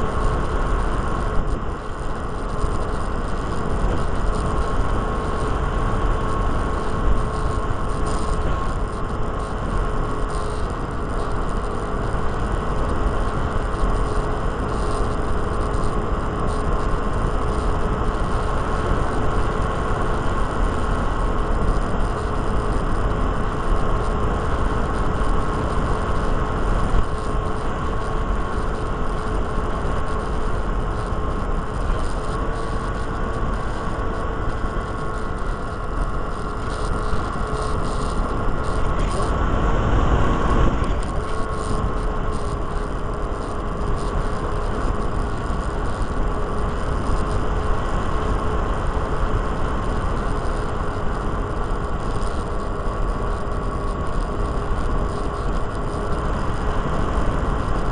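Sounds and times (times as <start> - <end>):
electric motor and propeller whine: 0.0 - 57.9
wind rush on microphone: 0.0 - 57.9.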